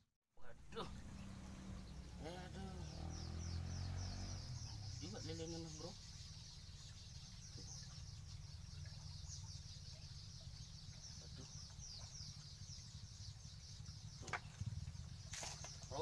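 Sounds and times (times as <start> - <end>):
small birds chirping: 0.4 - 16.0.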